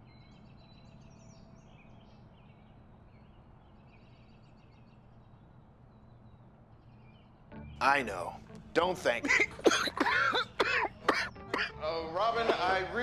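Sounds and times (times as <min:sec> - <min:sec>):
faint bird chirping: 0:00.0 - 0:11.7
low room hum: 0:00.0 - 0:13.0.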